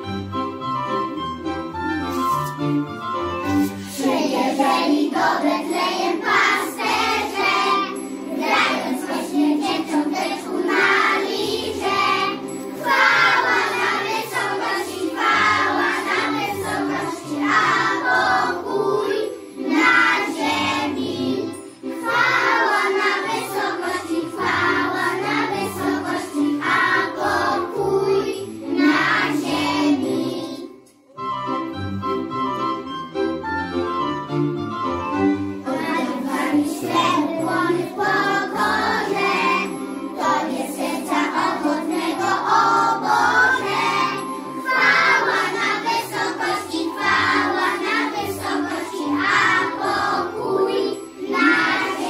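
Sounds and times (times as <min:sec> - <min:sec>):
children singing: 0:03.5 - 0:30.8, 0:35.6 - 0:52.0.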